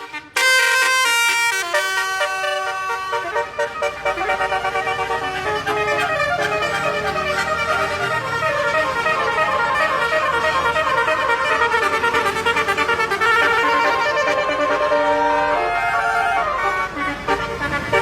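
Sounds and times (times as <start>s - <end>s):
multi-tone bus horn melody: 0.0s - 18.0s.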